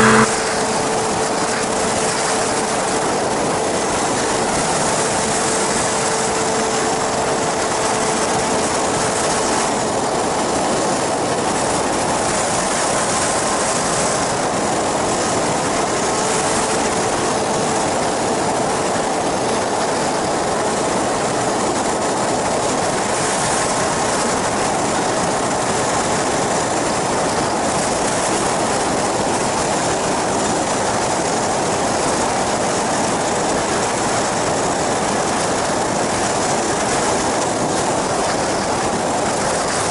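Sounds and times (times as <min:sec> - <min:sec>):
engine and propeller drone: 0:00.0 - 0:39.9
rush of wind: 0:00.0 - 0:39.9
wind buffeting microphone: 0:00.0 - 0:39.9.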